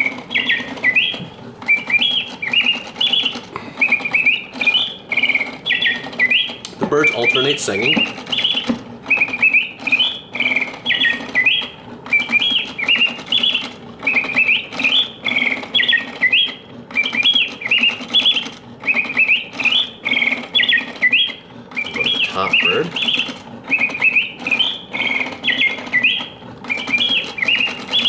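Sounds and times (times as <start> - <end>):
mechanical birds chirping and trilling: 0.0 - 28.0.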